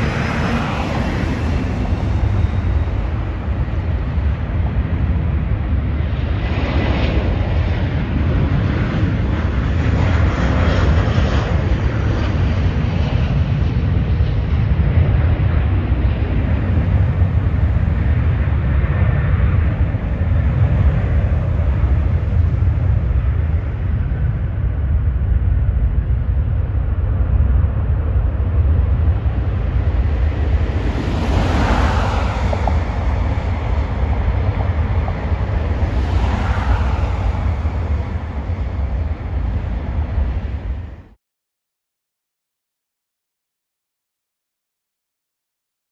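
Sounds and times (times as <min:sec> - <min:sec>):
jet airliner engine roar: 0:00.0 - 0:41.2
steady low rumble: 0:00.0 - 0:41.2.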